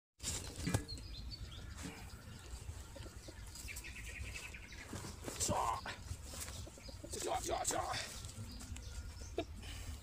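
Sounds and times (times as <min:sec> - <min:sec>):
small bird chirping trill: 0:00.8 - 0:09.9.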